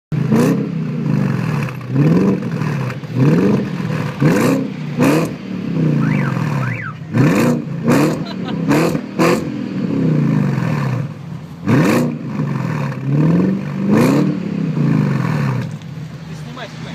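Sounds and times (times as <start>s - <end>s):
car engine revving: 0.1s - 16.9s.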